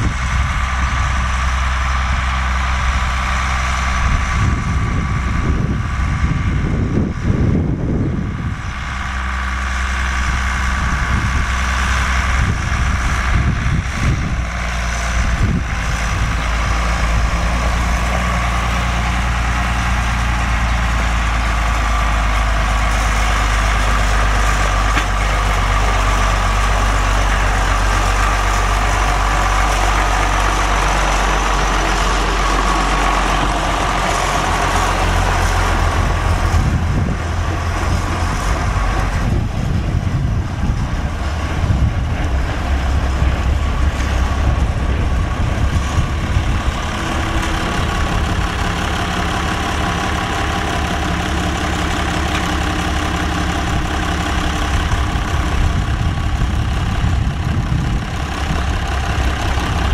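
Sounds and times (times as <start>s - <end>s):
tractor engine driving past: 0.0s - 59.9s.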